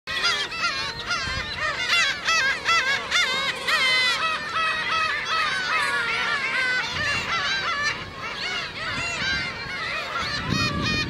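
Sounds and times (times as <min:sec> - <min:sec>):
gull colony calling: 0:00.1 - 0:11.0.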